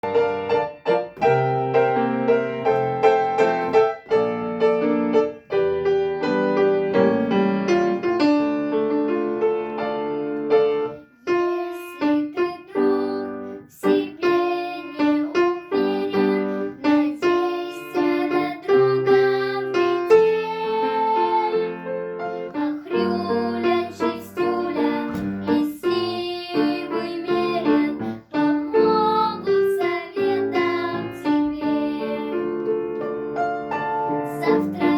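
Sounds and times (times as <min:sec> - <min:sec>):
piano or keyboard song: 0:00.0 - 0:34.9.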